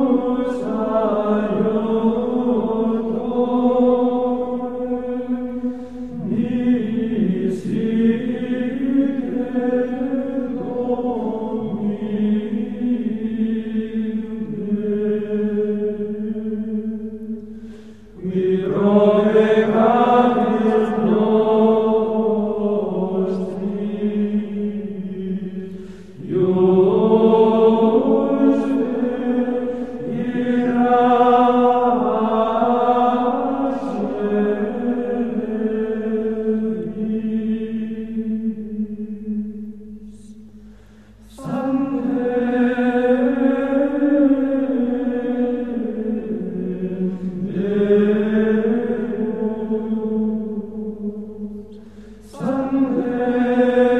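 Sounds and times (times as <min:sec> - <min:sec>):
voices singing a slow chant: 0:00.0 - 0:53.9.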